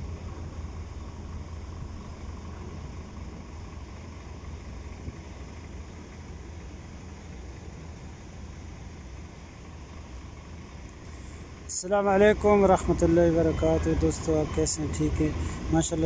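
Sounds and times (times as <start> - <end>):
even hiss: 0.0 - 16.0
ship engines rumbling: 0.0 - 16.0.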